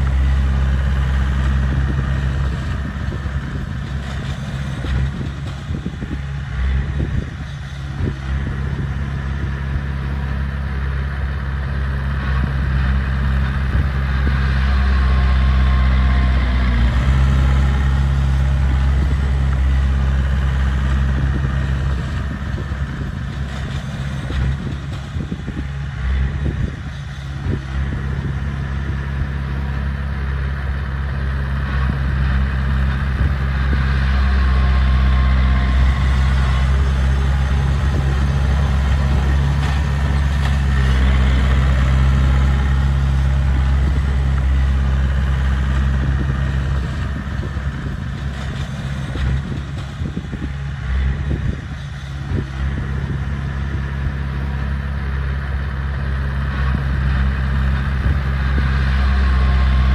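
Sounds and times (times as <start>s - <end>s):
blade pushing soil: 0.0s - 59.9s
bulldozer diesel engine running: 0.0s - 59.9s.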